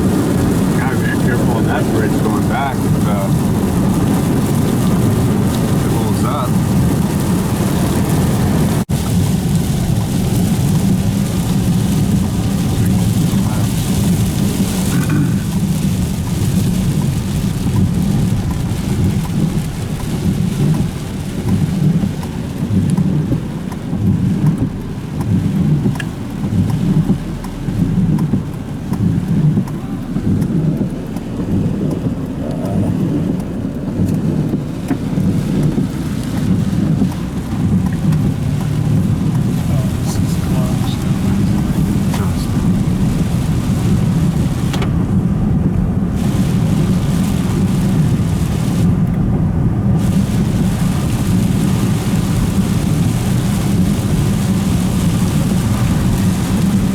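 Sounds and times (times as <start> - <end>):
heavy rain: 0.0 - 56.9
vehicle driving on wet road: 0.0 - 56.9.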